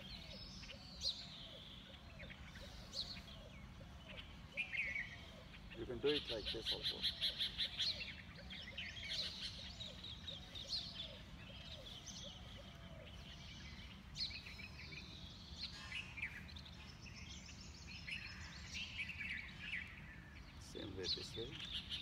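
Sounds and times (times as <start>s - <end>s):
birds chirping: 0.0s - 22.0s
low repeated bird call: 0.0s - 22.0s.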